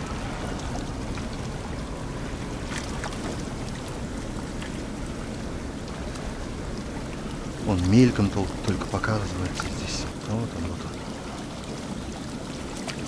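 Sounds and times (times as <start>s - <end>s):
water rushing through canal: 0.0s - 13.0s.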